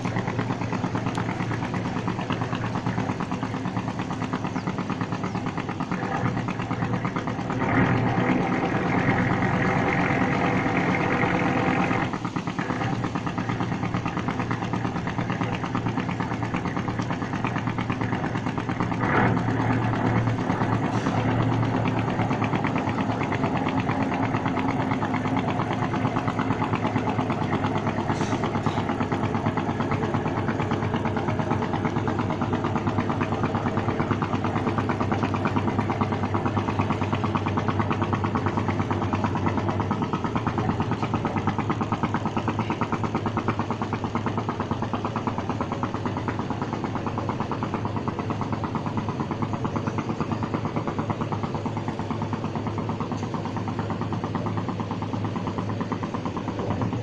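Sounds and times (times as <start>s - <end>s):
boat engine chugging: 0.0s - 57.0s.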